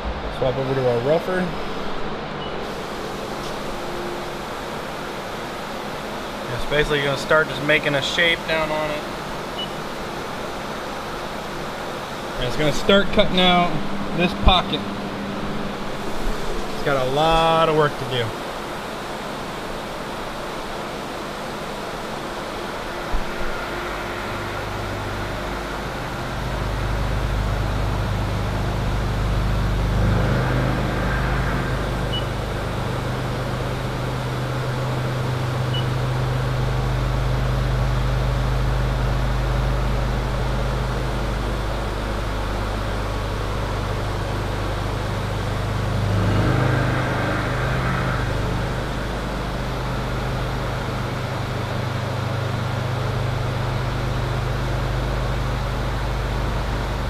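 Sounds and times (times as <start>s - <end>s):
milling machine hum: 0.0s - 57.0s.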